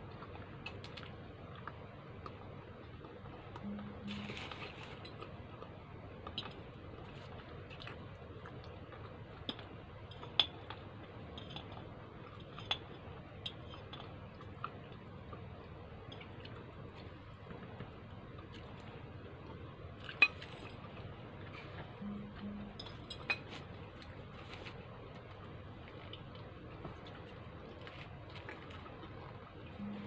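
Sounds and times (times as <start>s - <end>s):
faint chewing: 0.0s - 30.0s.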